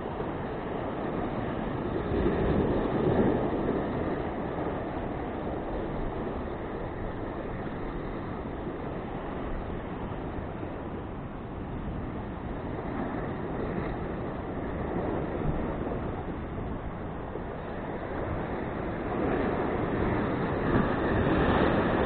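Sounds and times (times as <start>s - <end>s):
surf washing against rocks: 0.0s - 22.0s
wind buffeting microphone: 0.0s - 22.0s.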